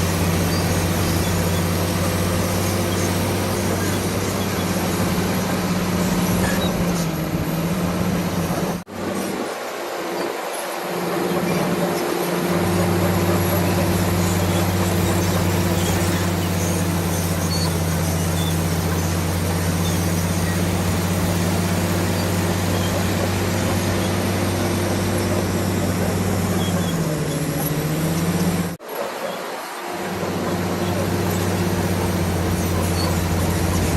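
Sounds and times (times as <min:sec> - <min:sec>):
bulldozer diesel engine running: 0:00.0 - 0:09.7, 0:10.8 - 0:33.9.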